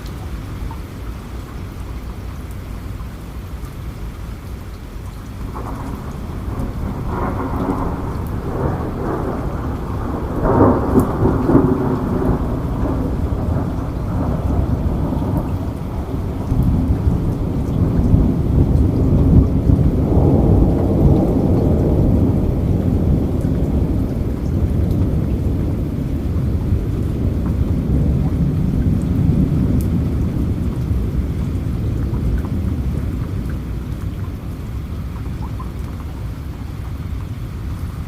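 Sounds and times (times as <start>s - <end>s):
steady rain: 0.0s - 38.0s
rolling thunder: 5.4s - 36.3s.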